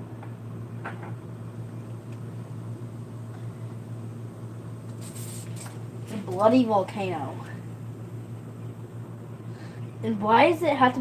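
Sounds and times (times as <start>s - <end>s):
low indoor hum: 0.0s - 11.0s.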